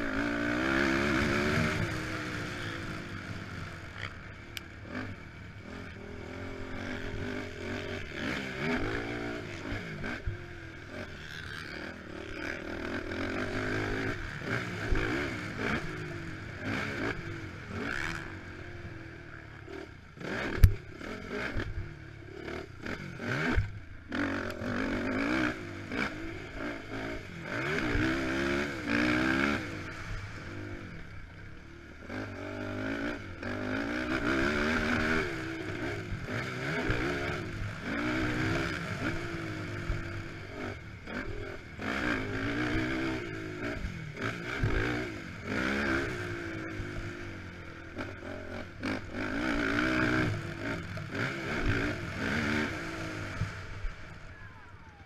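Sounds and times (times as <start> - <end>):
quad engine revving: 0.0 - 31.1, 32.0 - 54.3.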